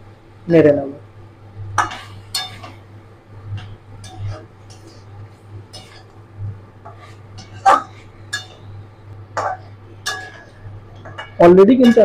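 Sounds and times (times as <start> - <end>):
steady low hum: 0.0 - 12.0
spatula scraping a wok: 1.8 - 12.0.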